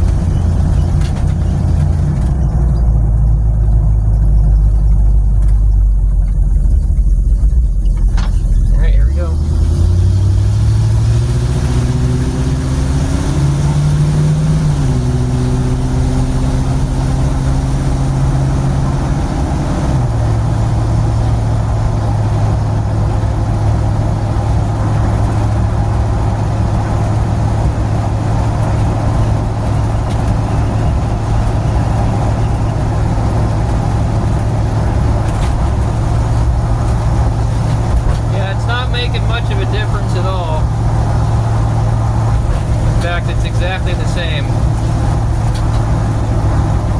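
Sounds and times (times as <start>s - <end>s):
road noise inside vehicle: 0.0s - 46.9s
vehicle engine drone: 0.0s - 46.9s.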